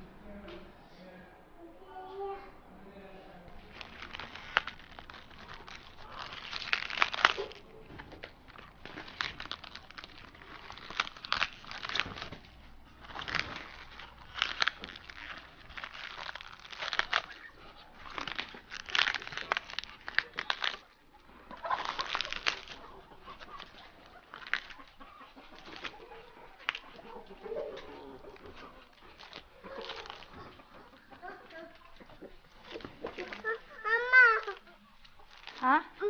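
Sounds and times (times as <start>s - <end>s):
cabbage leaves tearing: 3.6s - 36.0s.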